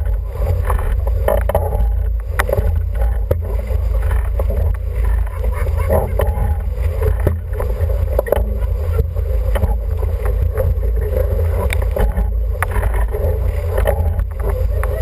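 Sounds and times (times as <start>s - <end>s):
water rushing past hull: 0.0s - 15.0s
water splashes: 0.0s - 15.0s.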